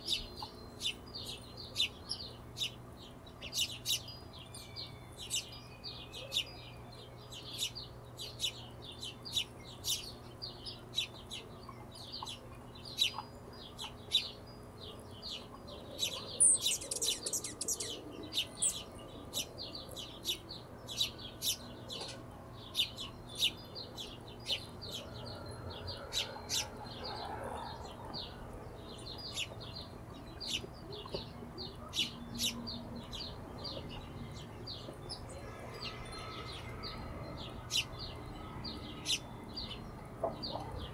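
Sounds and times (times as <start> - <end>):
hummingbird chip calls: 0.0 - 35.3.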